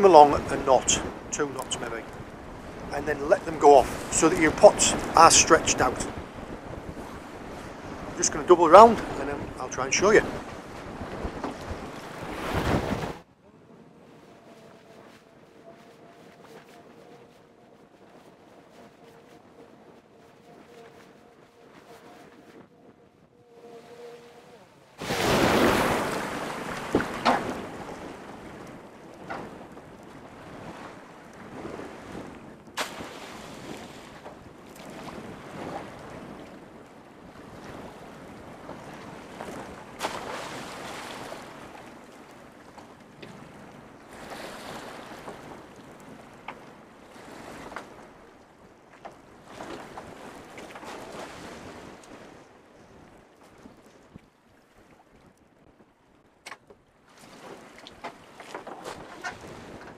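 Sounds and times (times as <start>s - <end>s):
wind buffeting microphone: 0.0s - 55.9s, 58.4s - 59.9s
choppy sea washing around boat: 0.0s - 59.9s.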